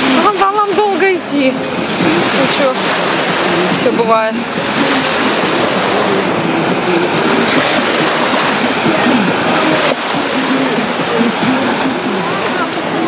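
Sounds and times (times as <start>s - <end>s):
small waves breaking on shore: 0.0s - 13.0s.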